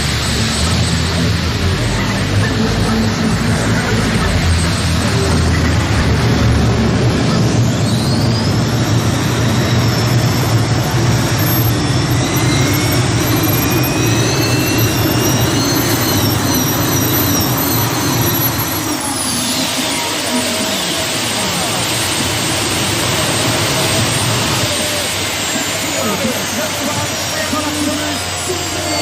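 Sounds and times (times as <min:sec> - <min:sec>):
high wavering whine: 0:00.0 - 0:29.0
tractor engine at full power: 0:00.0 - 0:29.0.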